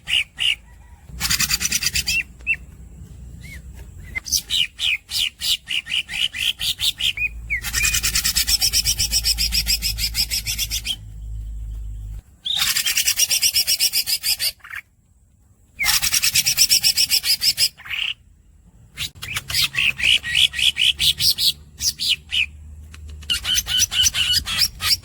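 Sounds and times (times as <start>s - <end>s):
bird singing raspy rolls: 0.0s - 25.0s.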